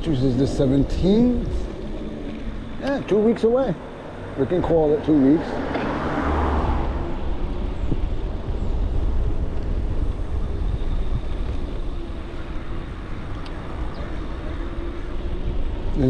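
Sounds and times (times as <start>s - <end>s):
road noise: 0.0s - 16.0s
wind rumble on microphone: 0.0s - 16.0s.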